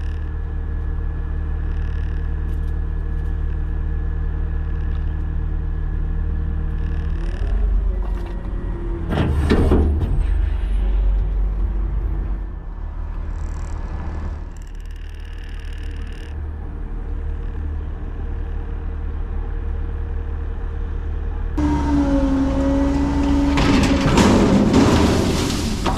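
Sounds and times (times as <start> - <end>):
garbage truck engine rumbling: 0.0 - 14.6, 15.7 - 25.9.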